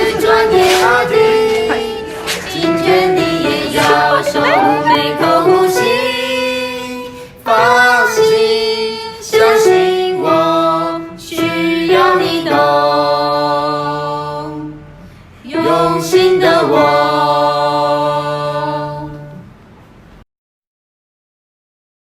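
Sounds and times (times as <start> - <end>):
a cappella singing voices: 0.0 - 19.4.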